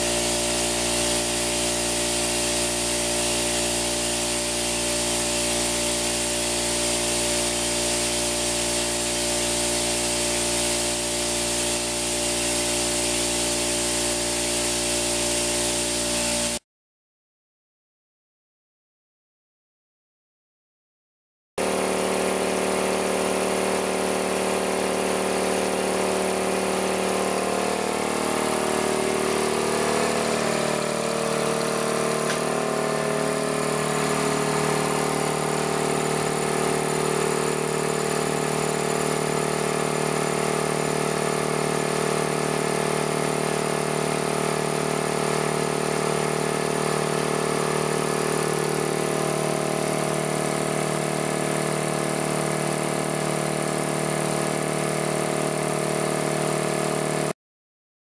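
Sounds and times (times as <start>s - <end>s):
air compressor running: 0.0s - 16.6s, 21.6s - 57.4s.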